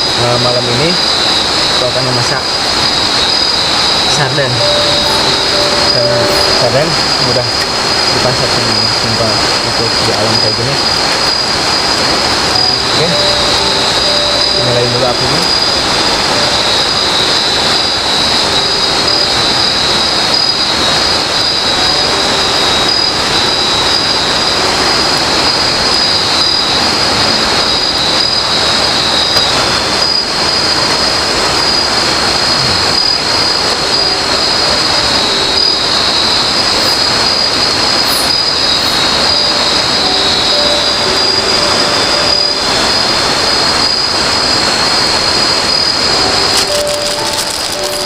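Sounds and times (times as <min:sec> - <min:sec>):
constant rushing noise: 0:00.0 - 0:48.0
forest insects buzzing: 0:00.0 - 0:48.0.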